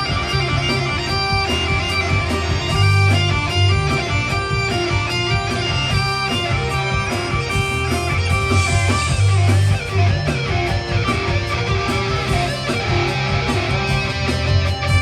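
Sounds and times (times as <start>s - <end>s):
lead guitar bending notes: 0.0s - 15.0s
rock band playing: 0.0s - 15.0s.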